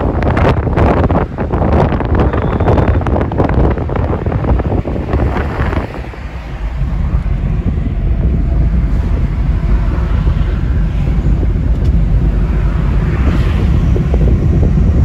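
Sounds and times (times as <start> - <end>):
road noise rumble: 0.0 - 15.0
wind buffeting microphone: 0.0 - 15.0.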